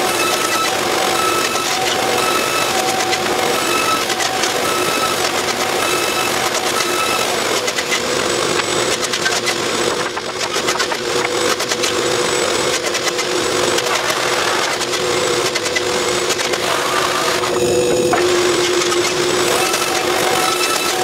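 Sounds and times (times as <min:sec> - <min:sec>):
workshop machinery humming: 0:00.0 - 0:21.0.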